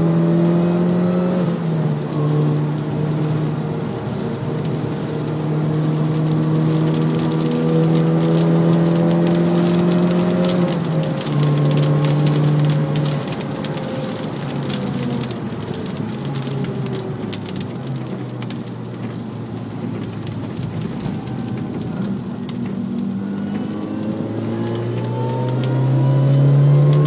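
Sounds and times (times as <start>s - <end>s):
car engine from inside cabin: 0.0s - 27.0s
fine rain ticks: 0.0s - 27.0s
rain and spray hissing on car: 0.0s - 27.0s.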